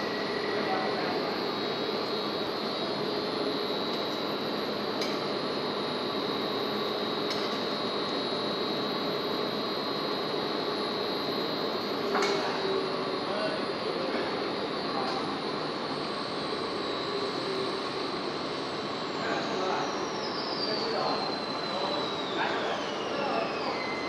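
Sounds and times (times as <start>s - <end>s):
machine high whine: 0.0s - 24.0s
machine low hum: 0.0s - 24.0s.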